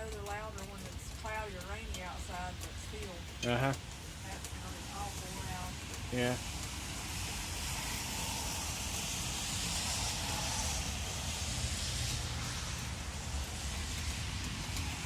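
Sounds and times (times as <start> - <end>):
rain hissing: 0.0 - 15.0
wind gusting on microphone: 0.0 - 15.0.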